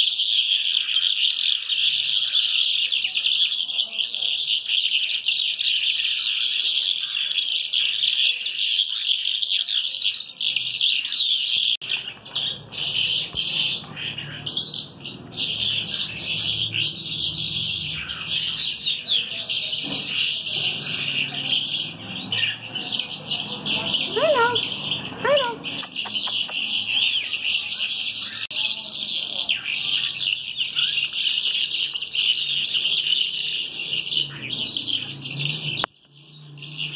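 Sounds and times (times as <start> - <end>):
caged birds chirping: 0.0 - 36.9.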